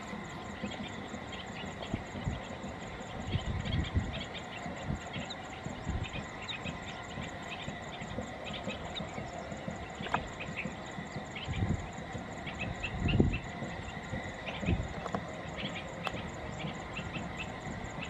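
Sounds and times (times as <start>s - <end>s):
distant train rumble: 0.0s - 18.0s
insects chirping: 0.0s - 18.0s.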